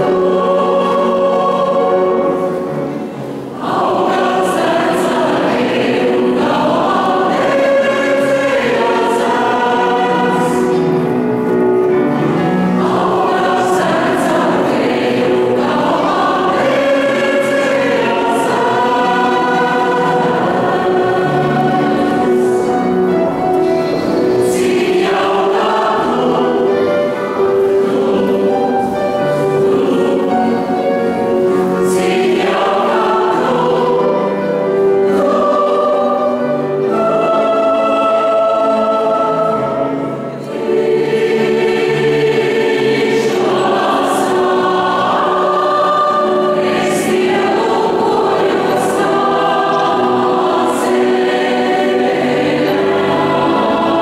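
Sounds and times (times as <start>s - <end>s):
mixed choir singing in harmony: 0.0s - 54.0s.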